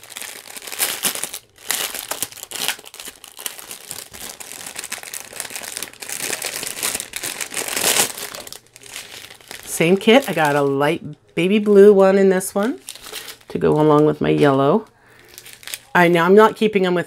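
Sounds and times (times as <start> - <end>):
plastic bags crinkling: 0.0 - 16.6.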